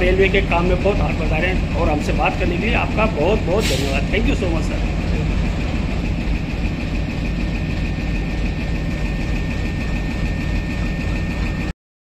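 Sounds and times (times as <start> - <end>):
diesel locomotive engine rumble: 0.0 - 11.7
high-pitched whine: 0.0 - 11.7.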